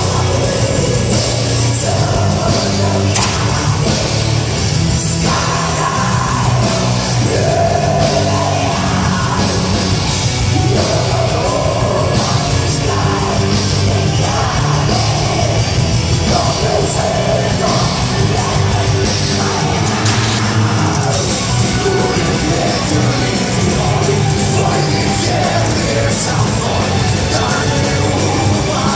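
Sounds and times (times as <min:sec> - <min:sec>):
heavy metal band playing live: 0:00.0 - 0:28.9
singer holding long sung lines: 0:00.0 - 0:28.9.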